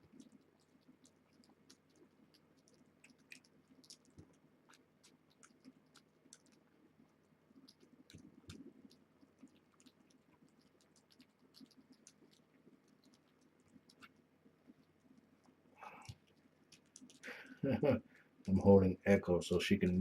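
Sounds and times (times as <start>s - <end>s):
cats feeding wet clicks: 0.0s - 18.6s.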